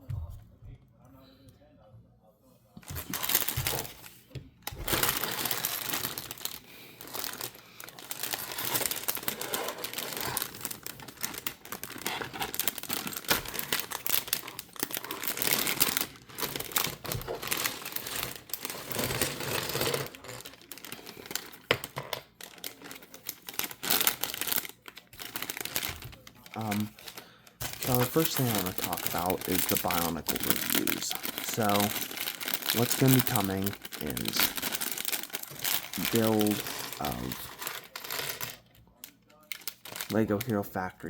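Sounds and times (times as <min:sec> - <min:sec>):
paper booklets crinkling: 0:02.8 - 0:40.9
plastic bags crinkling: 0:02.8 - 0:40.9.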